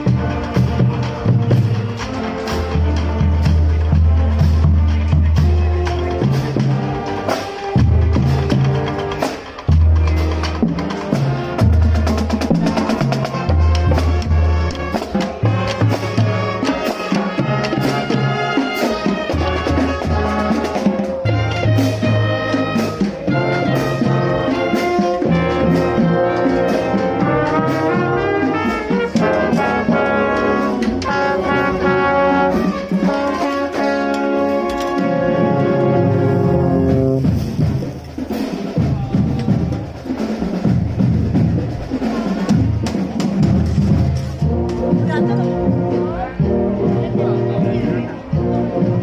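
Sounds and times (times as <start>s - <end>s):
brass band playing: 0.0s - 49.0s
steady drum beat: 0.0s - 49.0s.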